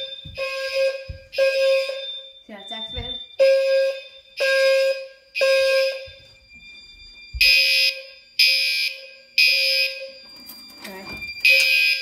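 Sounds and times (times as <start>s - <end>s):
fire alarm horn blasts: 0.0s - 12.0s.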